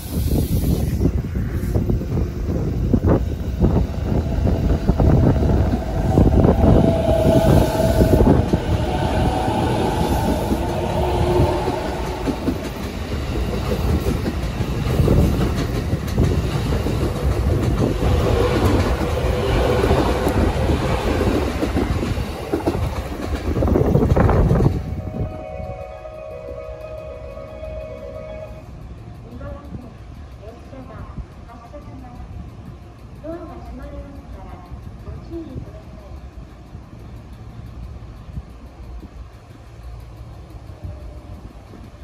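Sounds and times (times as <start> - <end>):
electric train passing: 0.0 - 42.0
wheels clickety-clack on rail joints: 0.0 - 42.0.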